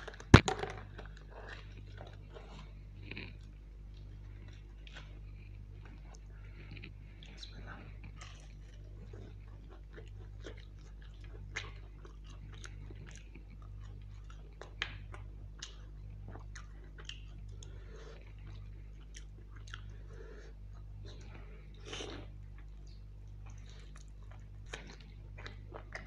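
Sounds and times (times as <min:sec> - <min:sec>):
steady low hum: 0:00.0 - 0:26.0
chewing and wet mouth sounds: 0:01.0 - 0:26.0.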